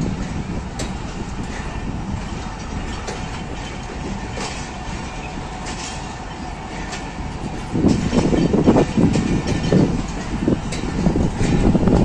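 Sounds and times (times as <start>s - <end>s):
train coaches rumbling: 0.0s - 12.0s
wheel clicks over rail joints: 0.0s - 12.0s
wind buffeting microphone: 0.0s - 12.0s.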